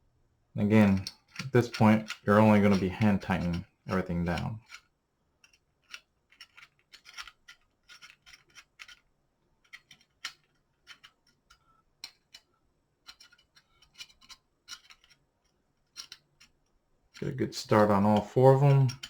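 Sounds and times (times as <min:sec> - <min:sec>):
metallic screw clicks and scrapes: 0:00.9 - 0:17.2, 0:17.8 - 0:19.0.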